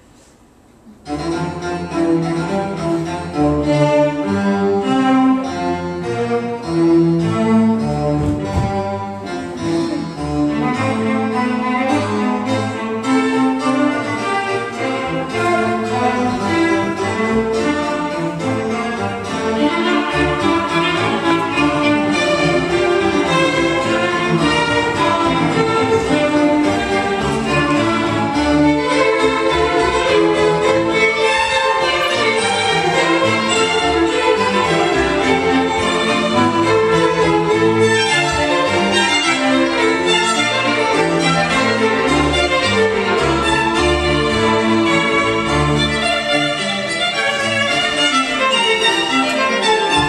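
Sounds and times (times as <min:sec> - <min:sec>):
orchestral strings music: 0:00.0 - 0:50.0.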